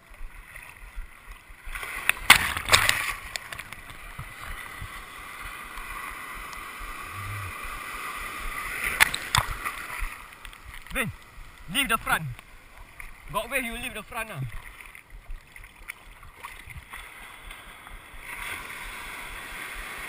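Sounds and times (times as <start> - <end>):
waves splashing against camera: 0.0 - 20.0.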